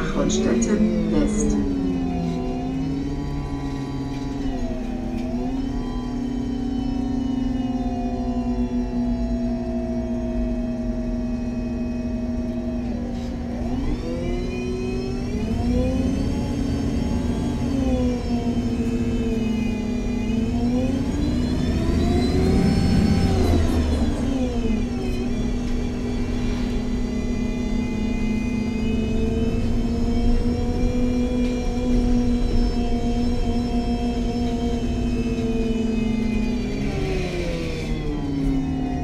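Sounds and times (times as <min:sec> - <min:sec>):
bus drivetrain whine: 0:00.0 - 0:39.0.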